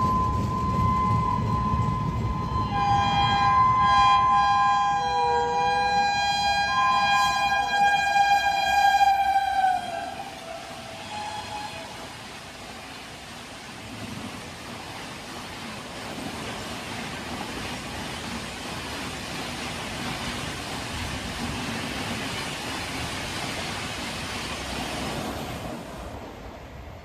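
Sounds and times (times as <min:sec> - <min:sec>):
train passing at high speed: 0:00.0 - 0:27.0.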